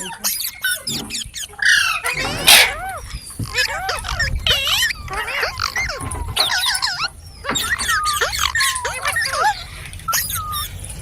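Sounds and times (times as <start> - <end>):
parrot chattering and squawking: 0.0 - 10.8.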